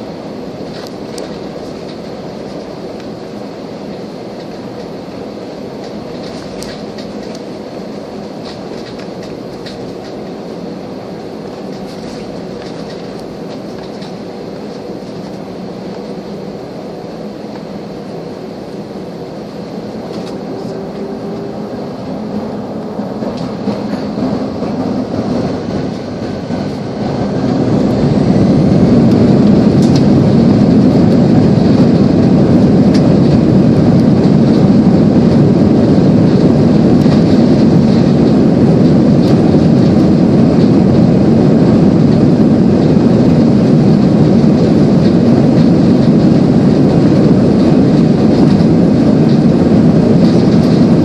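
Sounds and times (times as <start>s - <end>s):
jet engines spooling up: 0.0s - 51.0s.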